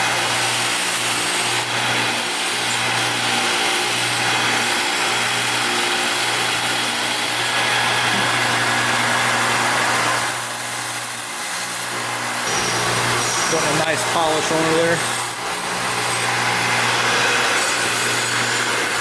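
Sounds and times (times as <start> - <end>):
power tool motor hum: 0.0 - 19.0
wire brush scrubbing metal: 0.0 - 19.0.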